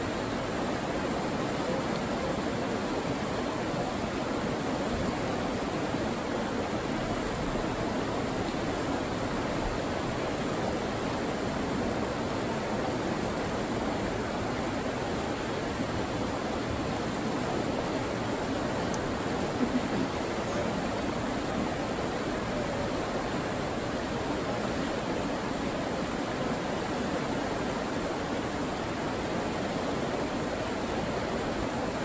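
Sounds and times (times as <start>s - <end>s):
river rapids over rocks: 0.0s - 32.0s.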